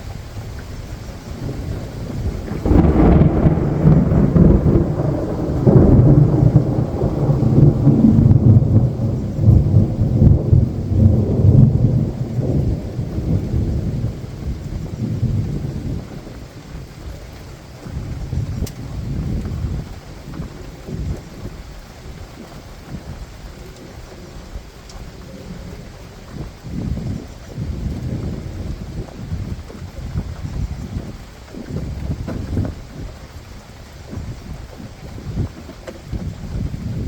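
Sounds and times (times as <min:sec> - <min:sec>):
steady rain: 0:00.0 - 0:37.0
thunder rumbling: 0:00.0 - 0:37.0.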